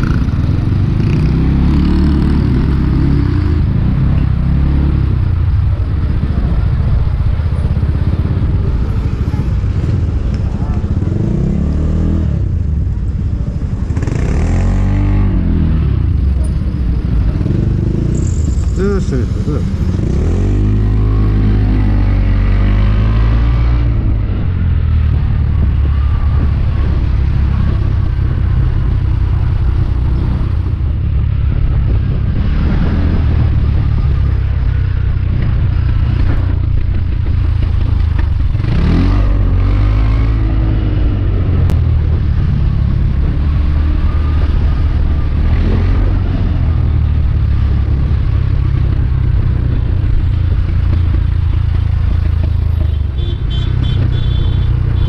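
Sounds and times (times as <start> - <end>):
wind rumble on microphone: 2.4 - 18.6, 19.8 - 52.8.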